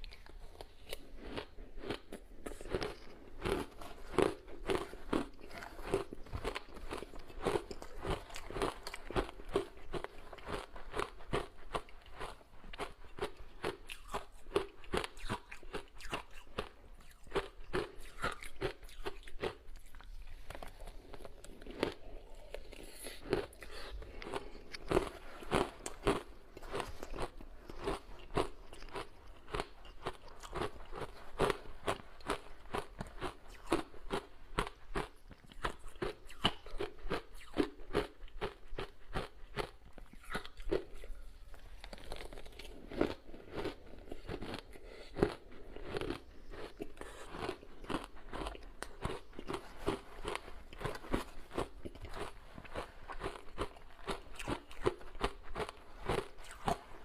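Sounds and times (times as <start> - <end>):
ice crunching being chewed: 0.0 - 57.0.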